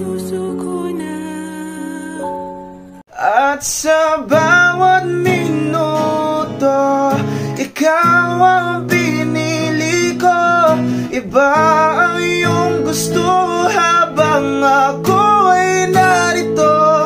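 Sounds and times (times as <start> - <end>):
acoustic guitar strumming: 0.0 - 17.0
man singing a slow ballad: 3.1 - 17.0.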